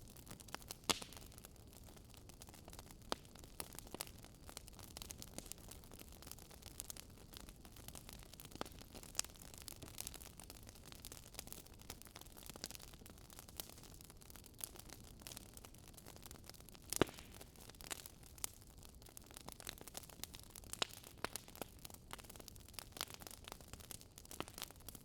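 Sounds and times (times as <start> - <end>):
firewood crackling: 0.0 - 25.0.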